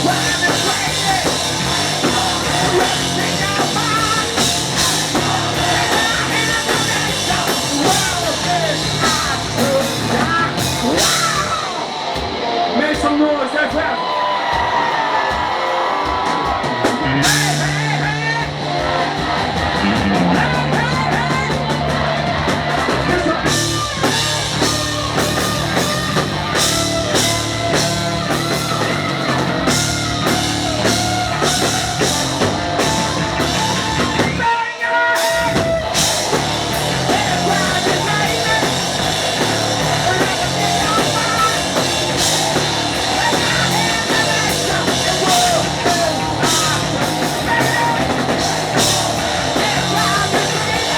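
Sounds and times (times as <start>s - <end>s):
bass notes: 0.0s - 11.6s, 16.9s - 34.5s, 35.5s - 50.9s
drums steady beat: 0.0s - 50.9s
electric guitar: 0.0s - 50.9s.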